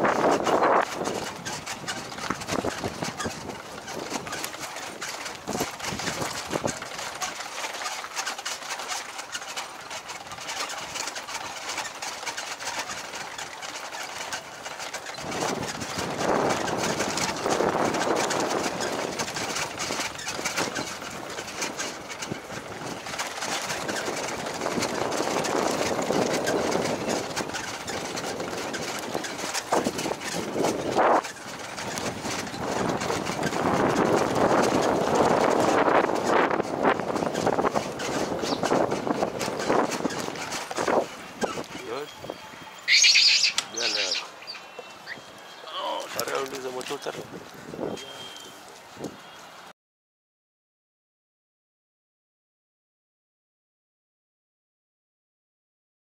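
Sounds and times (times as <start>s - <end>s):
tyre and wind noise: 0.0s - 49.7s.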